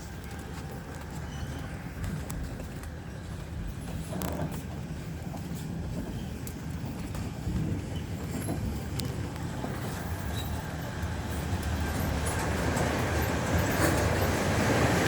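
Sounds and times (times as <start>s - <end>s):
rail clicks and knocks: 0.0s - 15.0s
train rumbling on track: 0.0s - 15.0s.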